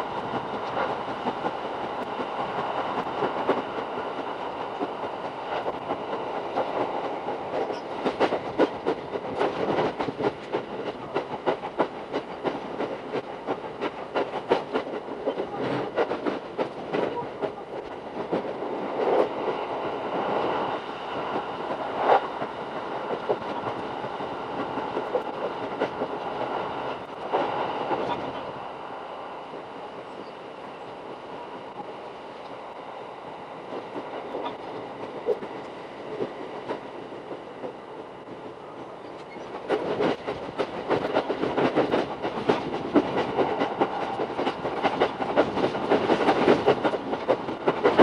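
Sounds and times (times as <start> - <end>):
train wheels clicking over rails: 0.0 - 28.6, 29.4 - 48.0.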